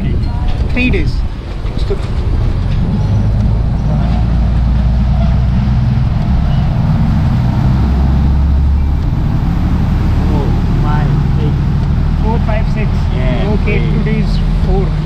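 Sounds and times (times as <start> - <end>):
boat engine droning: 1.2 - 15.0.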